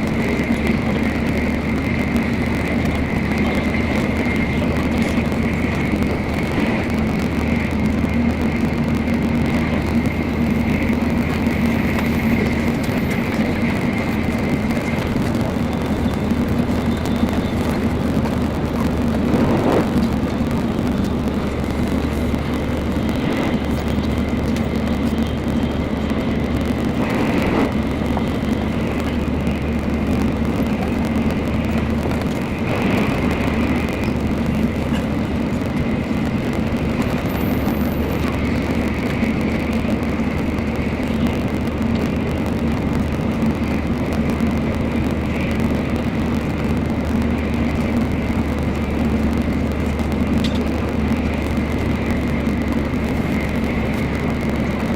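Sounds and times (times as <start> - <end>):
train running at speed: 0.0 - 54.9.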